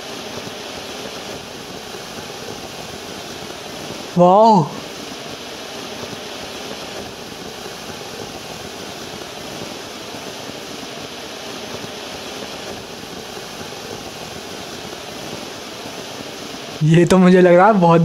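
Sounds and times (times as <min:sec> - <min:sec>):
firework fountain hissing: 0:00.0 - 0:18.0.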